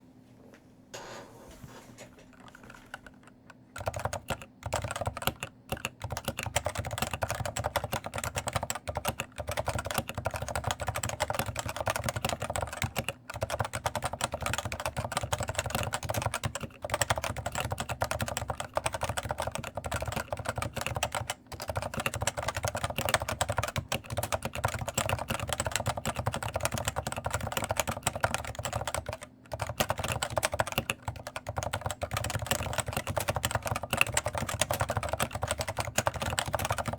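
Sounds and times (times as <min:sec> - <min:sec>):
keycaps clacking and rattling: 0:02.2 - 0:36.9
fast typing on keyboard: 0:03.8 - 0:36.9.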